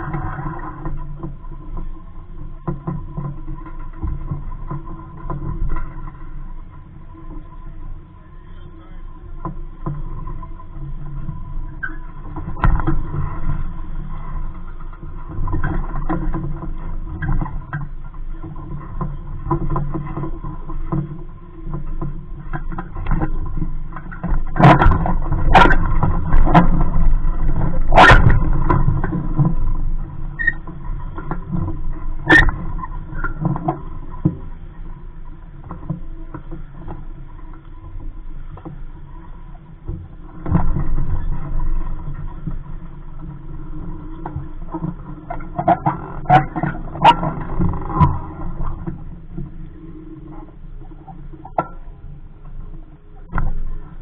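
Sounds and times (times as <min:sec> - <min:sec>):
knocks and clicks on a sailboat: 0:00.0 - 0:54.0
steady low rumble: 0:00.0 - 0:54.0.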